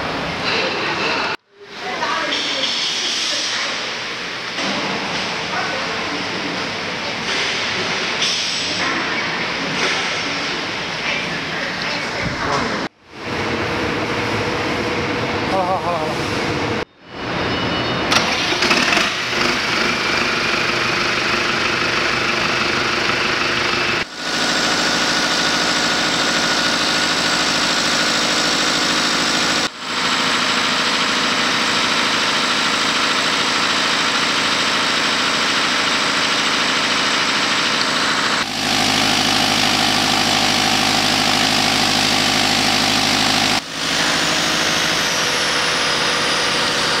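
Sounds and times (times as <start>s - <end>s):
diesel generator engine running: 0.0s - 47.0s.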